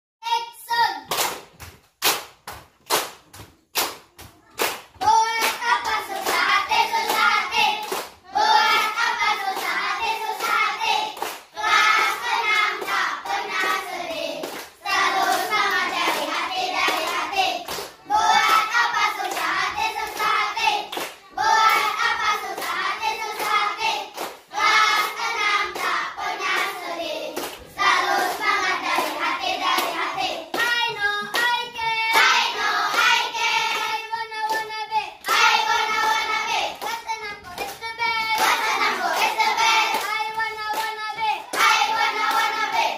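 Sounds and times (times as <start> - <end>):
hand claps: 1.1 - 25.9, 26.5 - 42.9
children singing in unison: 5.0 - 42.9.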